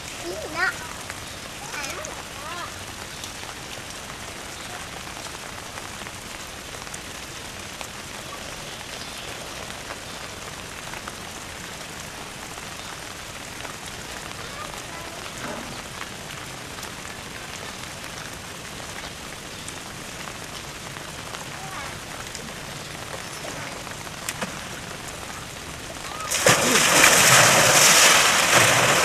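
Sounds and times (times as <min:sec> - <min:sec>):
falling water hiss and patter: 0:00.0 - 0:29.0.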